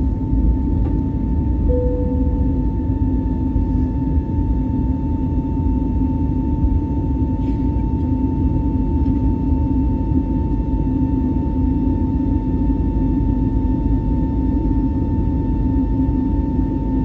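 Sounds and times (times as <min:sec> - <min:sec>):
jet engine cabin rumble: 0:00.0 - 0:17.0.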